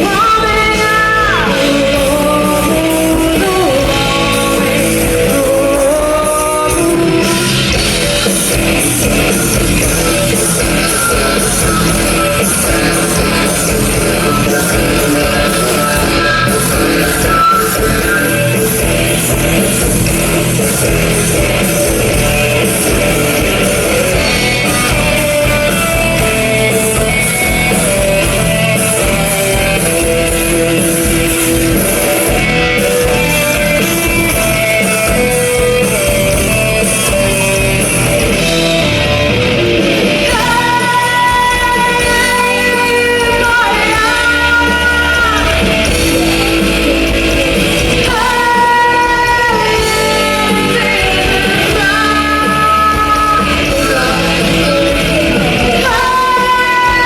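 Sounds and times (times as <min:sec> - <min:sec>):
lead vocal: 0:00.0 - 0:57.0
rock band playing: 0:00.0 - 0:57.0.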